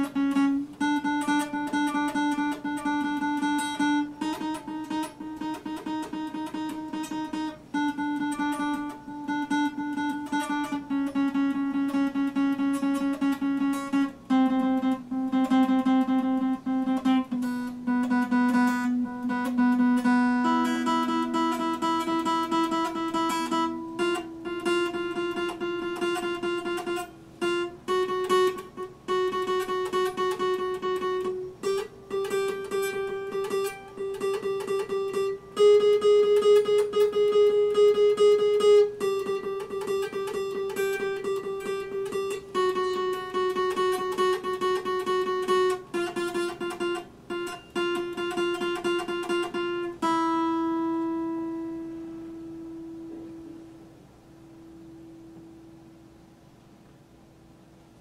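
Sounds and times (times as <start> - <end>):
acoustic guitar strumming chords: 0.0 - 57.4.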